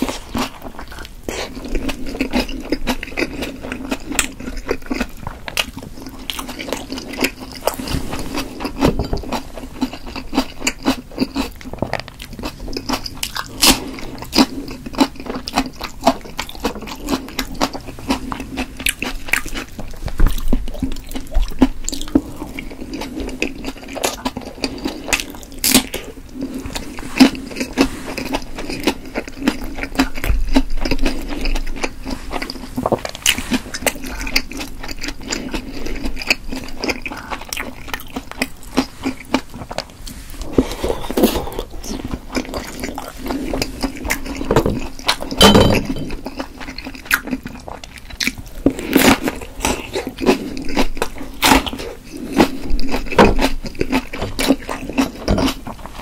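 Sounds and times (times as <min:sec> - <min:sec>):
chewing with wet mouth clicks: 0:00.3 - 0:07.8, 0:08.6 - 0:40.1, 0:40.9 - 0:56.0.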